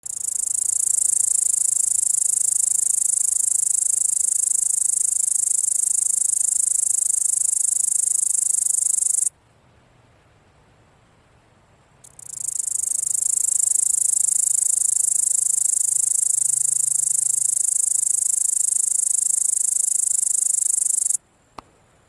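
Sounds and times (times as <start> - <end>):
grasshopper buzzing trill: 0.0 - 9.3, 12.1 - 21.2.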